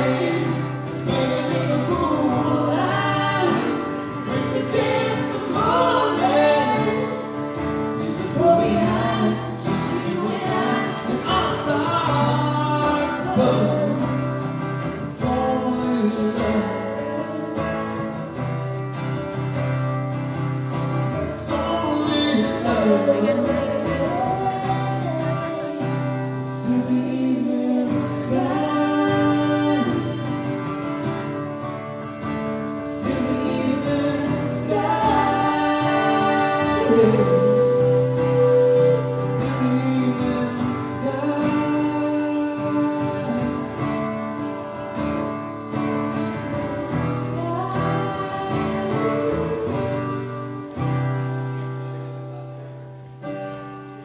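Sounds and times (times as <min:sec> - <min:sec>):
bass: 0:00.0 - 0:54.0
guitar: 0:00.0 - 0:54.0
live band playing slow song: 0:00.0 - 0:54.0.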